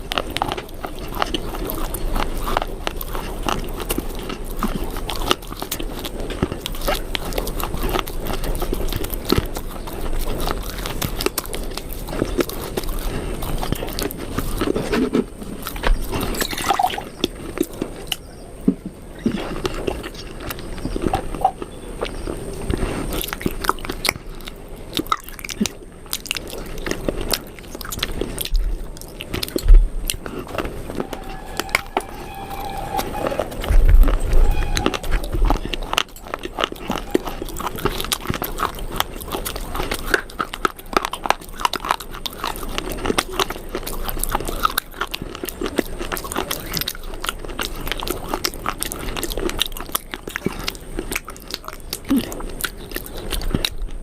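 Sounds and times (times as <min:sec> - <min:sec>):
crunching and chewing clay: 0:00.0 - 0:54.0.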